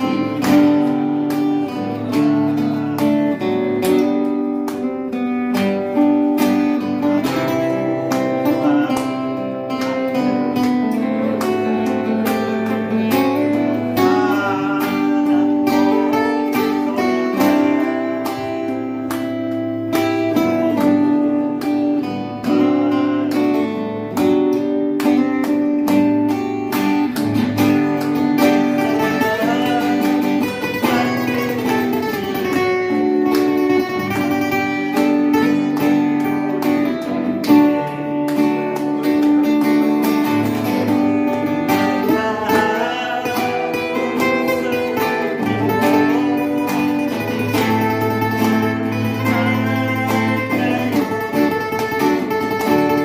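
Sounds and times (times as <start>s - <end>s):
two guitars playing: 0.0s - 53.0s.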